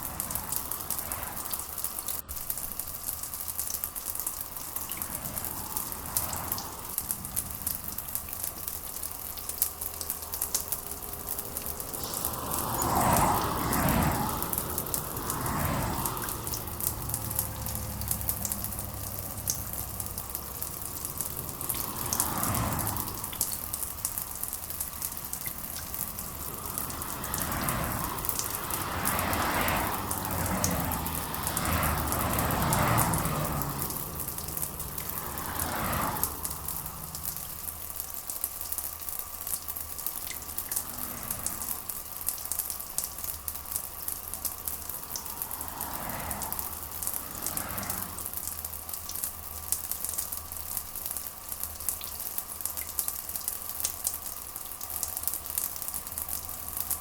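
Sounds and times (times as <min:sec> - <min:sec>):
rushing rain swells: 0:00.0 - 0:57.0
steady rain pattering: 0:00.0 - 0:57.0.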